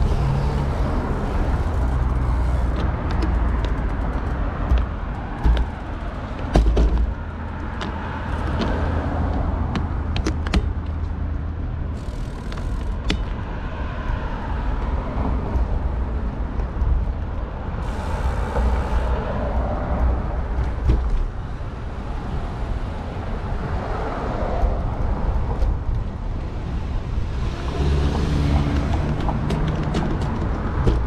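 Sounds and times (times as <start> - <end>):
cars driving past: 0.0 - 10.2, 11.2 - 16.8, 17.4 - 31.0.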